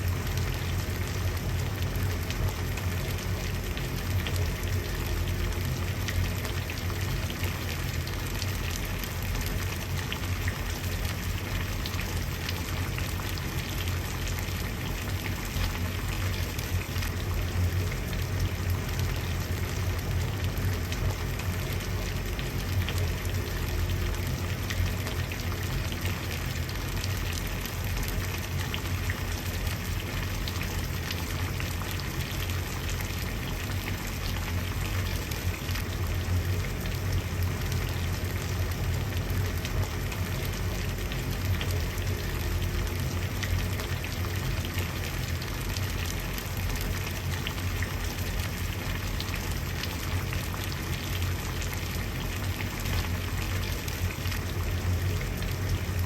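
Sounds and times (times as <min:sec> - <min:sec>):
water boiling and bubbling: 0:00.0 - 0:56.0.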